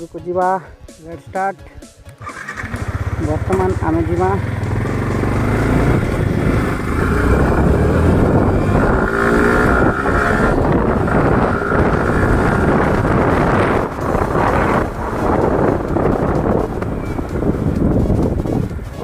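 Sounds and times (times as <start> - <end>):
motorcycle engine running: 2.2 - 19.0
wind buffeting microphone: 2.6 - 19.0.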